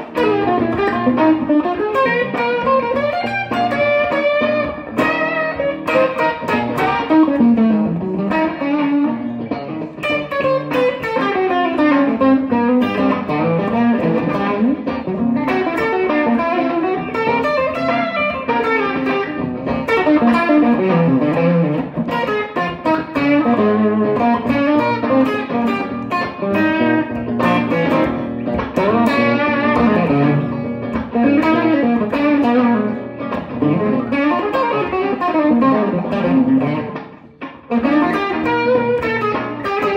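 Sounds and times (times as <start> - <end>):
electric guitar blues lines: 0.0 - 39.9.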